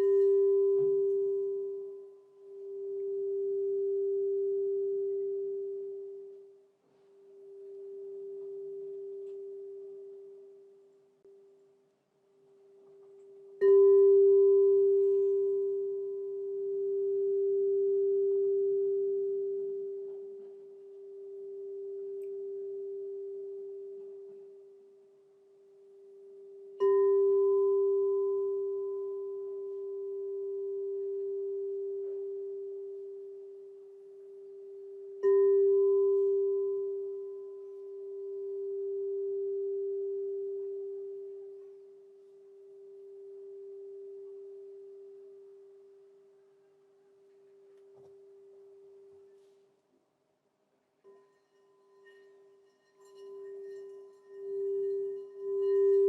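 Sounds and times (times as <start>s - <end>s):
crystal singing bowl ringing: 0.0s - 10.9s, 12.9s - 46.4s, 51.0s - 56.0s.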